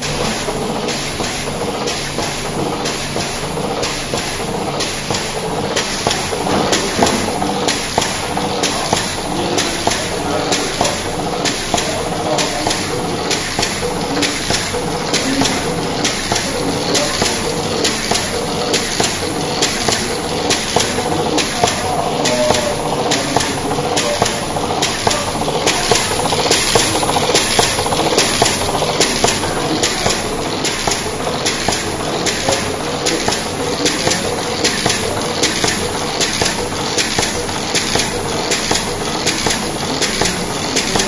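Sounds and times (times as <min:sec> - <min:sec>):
constant machine noise: 0:00.0 - 0:41.0
sharp mechanical clacks: 0:00.0 - 0:41.0.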